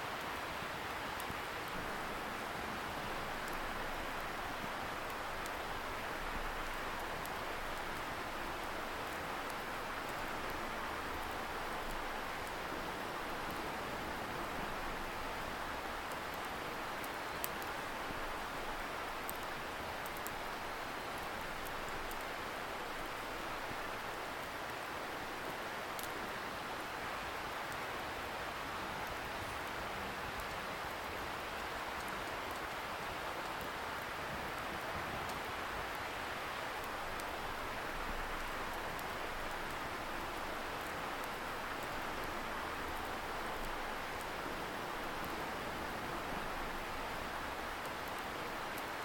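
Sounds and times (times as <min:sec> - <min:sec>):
campfire crackling: 0:00.1 - 0:49.0.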